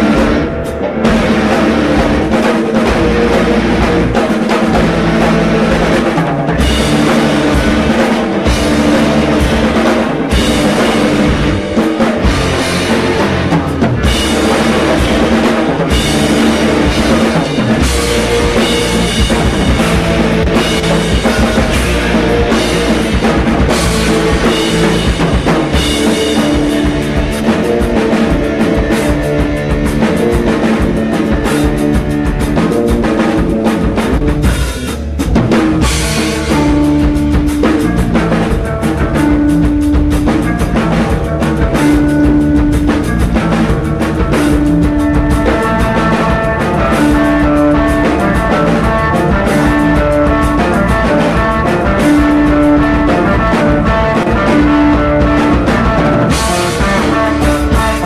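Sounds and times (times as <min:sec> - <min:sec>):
drum kit beat: 0:00.0 - 0:58.0
rock band playing live: 0:00.0 - 0:58.0.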